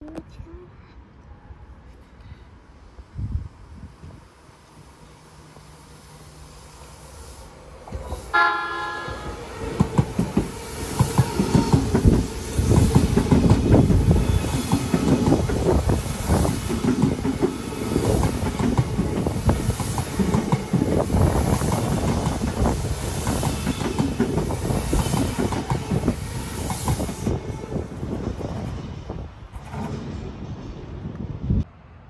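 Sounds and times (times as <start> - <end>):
electric train passing: 2.6 - 32.0.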